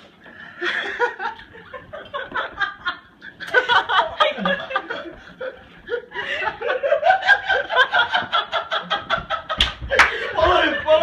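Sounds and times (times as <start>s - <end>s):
people laughing: 0.6s - 11.0s.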